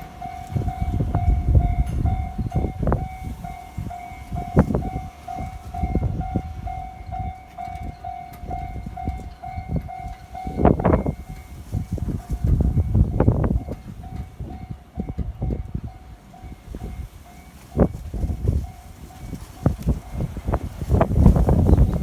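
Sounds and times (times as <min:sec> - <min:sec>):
level crossing warning bell ringing: 0:00.0 - 0:22.0
train wheels clattering over rails: 0:00.0 - 0:22.0.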